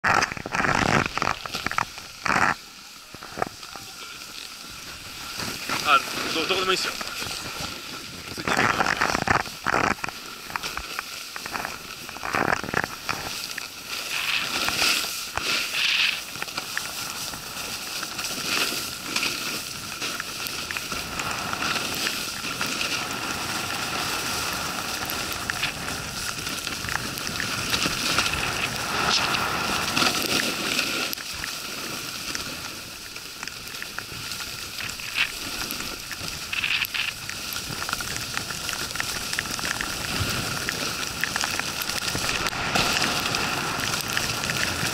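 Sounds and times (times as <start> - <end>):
snowboard scraping over snow: 0.0 - 44.9.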